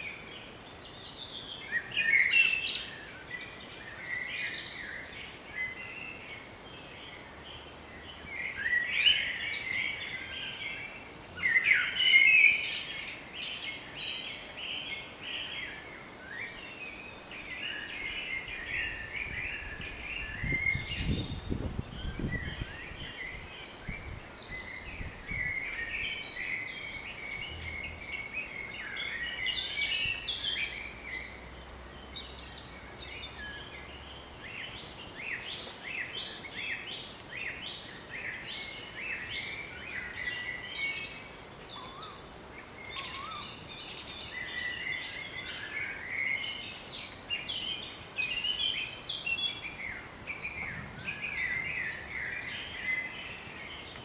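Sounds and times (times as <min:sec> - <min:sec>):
low wind gusts: 0:00.0 - 0:54.0
songbirds singing: 0:00.0 - 0:54.0.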